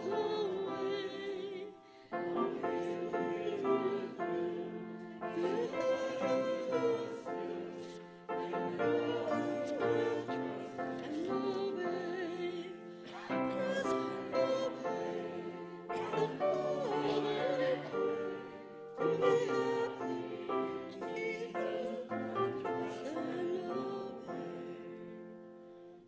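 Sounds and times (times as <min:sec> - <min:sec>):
congregation singing a hymn: 0:00.0 - 0:26.0.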